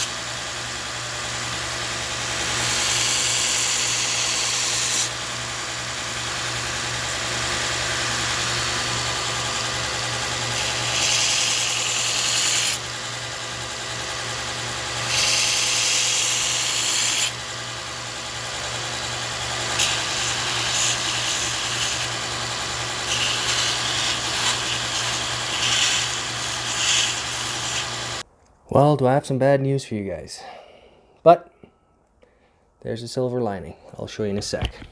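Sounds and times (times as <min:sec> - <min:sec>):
belt sander motor hum: 0:00.0 - 0:28.2
hissing grind of steel on belt: 0:00.0 - 0:28.2.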